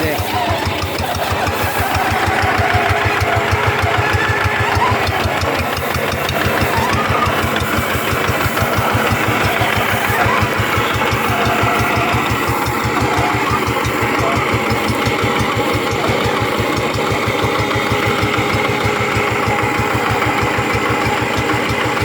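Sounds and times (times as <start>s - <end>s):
tractor engine chugging: 0.0s - 22.0s.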